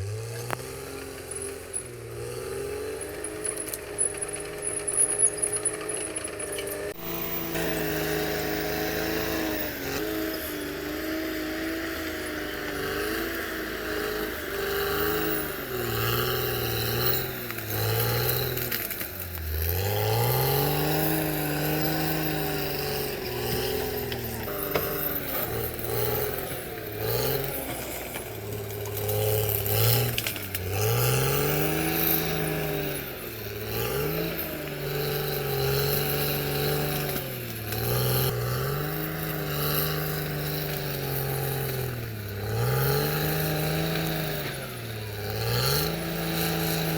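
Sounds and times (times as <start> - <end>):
bulldozer diesel engine working: 0.0 - 46.9.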